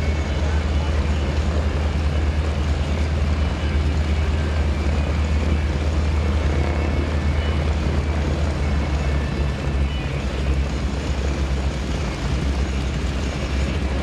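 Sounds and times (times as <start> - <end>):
propeller plane engines rumbling: 0.0 - 14.0.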